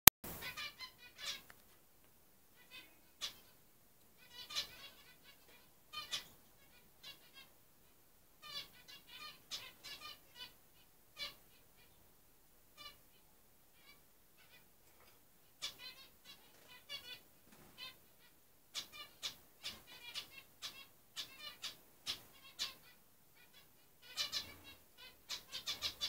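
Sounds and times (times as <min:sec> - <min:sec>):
cage birds chirping: 0:00.3 - 0:01.8, 0:02.5 - 0:26.0.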